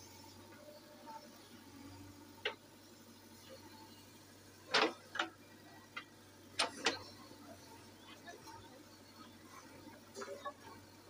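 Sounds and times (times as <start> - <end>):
faint low engine hum: 0.0 - 11.0.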